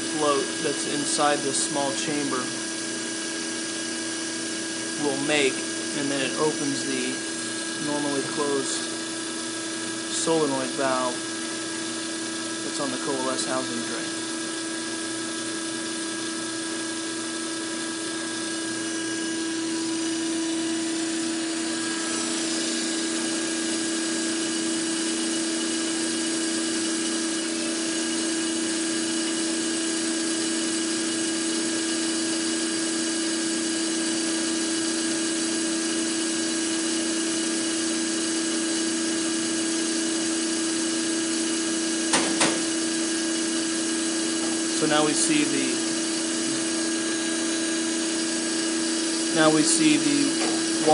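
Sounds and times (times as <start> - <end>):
pump motor humming: 0.0 - 50.9.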